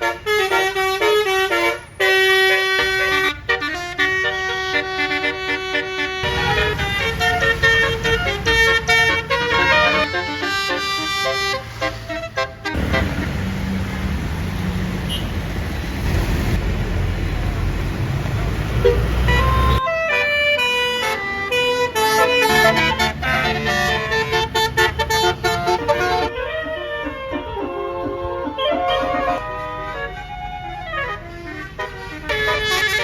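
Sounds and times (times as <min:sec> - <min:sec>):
air horn playing a melody: 0:00.0 - 0:13.2, 0:18.8 - 0:33.0.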